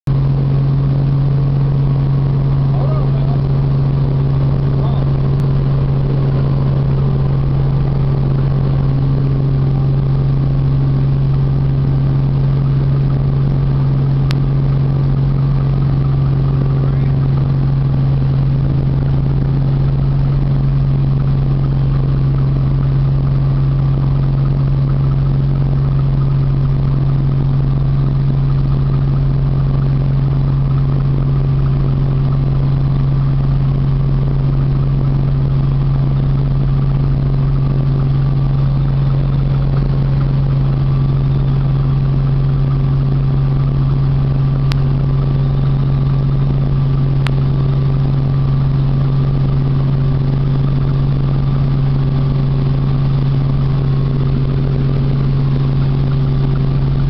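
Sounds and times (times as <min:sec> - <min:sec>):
helicopter engine and rotor drone: 0:00.1 - 0:57.0.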